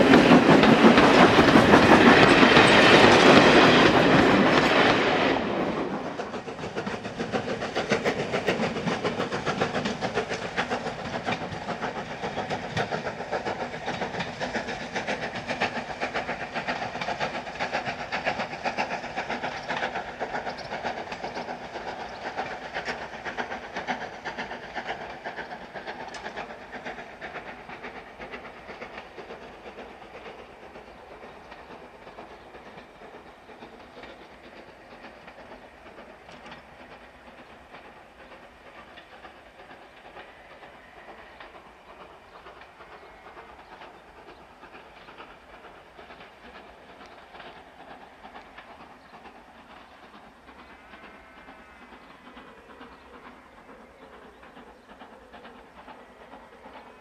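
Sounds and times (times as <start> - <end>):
steam locomotive exhaust: 0.0 - 57.0
train wheels clattering on rails: 0.0 - 57.0.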